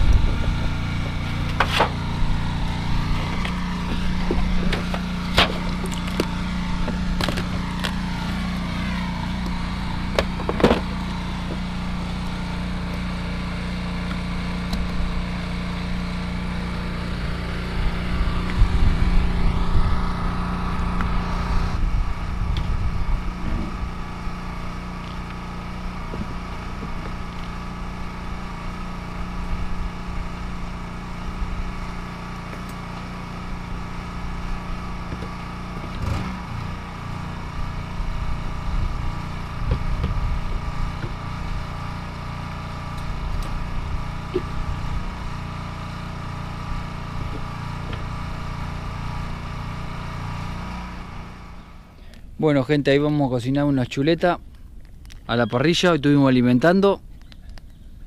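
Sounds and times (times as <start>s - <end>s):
small engine running: 0.0s - 52.3s.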